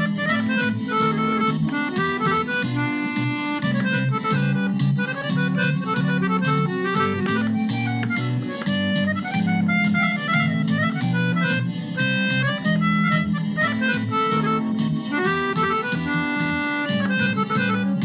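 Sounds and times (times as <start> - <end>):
piano accordion folk dance tune: 0.0 - 18.0.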